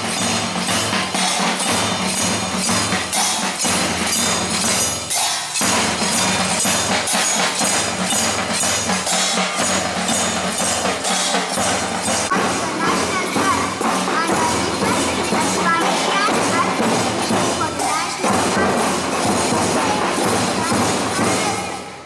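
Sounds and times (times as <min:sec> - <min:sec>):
marching band drums and cymbals: 0:00.0 - 0:22.0.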